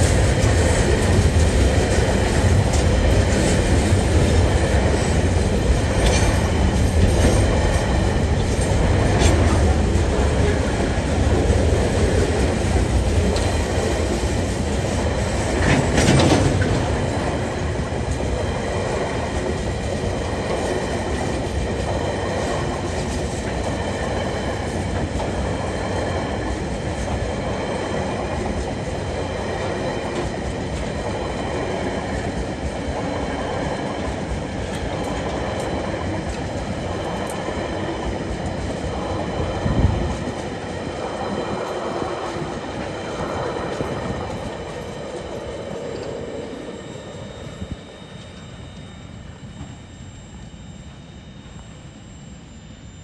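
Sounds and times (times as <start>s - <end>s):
train wheels rumbling on rails: 0.0s - 51.8s.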